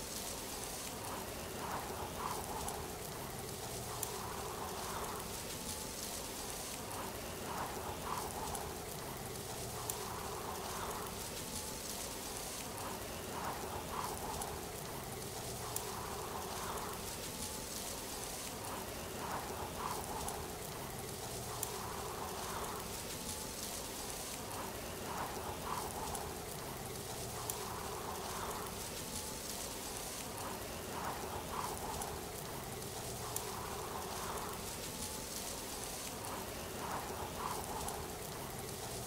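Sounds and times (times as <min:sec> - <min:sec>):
faint ticks: 0:00.0 - 0:39.0
hiss of falling water: 0:00.0 - 0:39.0.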